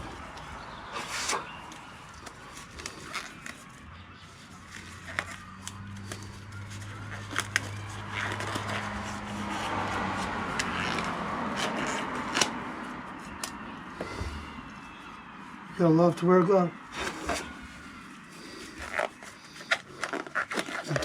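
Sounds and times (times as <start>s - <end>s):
glove material rustling: 0.0s - 13.6s, 16.9s - 21.0s.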